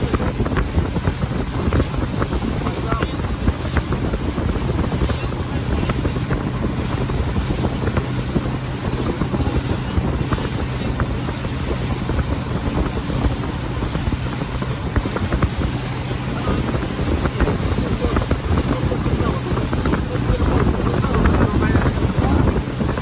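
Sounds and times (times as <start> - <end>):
boat motor humming: 0.0 - 23.0
wind buffeting microphone: 0.0 - 23.0.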